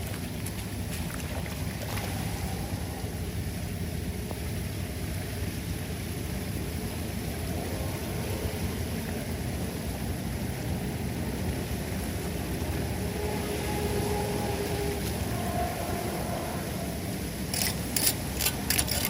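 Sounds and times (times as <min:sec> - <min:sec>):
floodwater rushing down a drain: 0:00.0 - 0:19.0.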